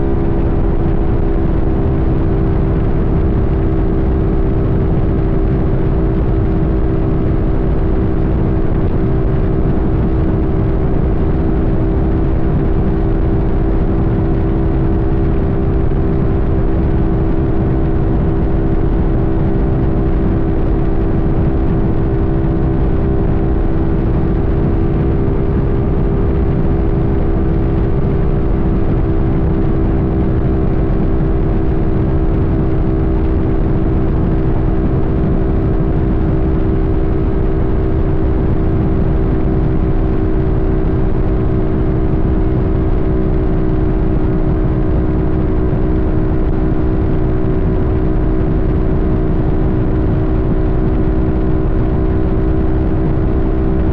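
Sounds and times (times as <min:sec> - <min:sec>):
motorcycle engine cruising: 0:00.0 - 0:53.9
wind and road noise: 0:00.0 - 0:53.9.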